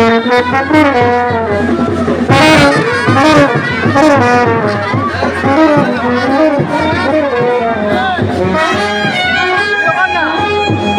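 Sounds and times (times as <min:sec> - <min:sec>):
brass band playing: 0:00.0 - 0:10.9.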